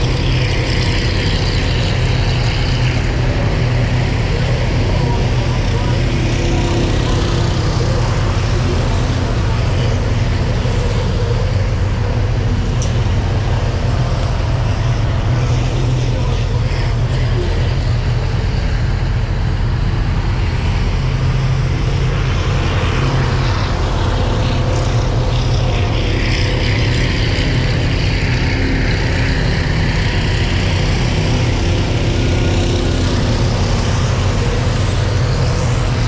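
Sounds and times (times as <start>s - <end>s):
race engines: 0.0s - 36.0s
vehicle engine idling: 0.0s - 36.0s.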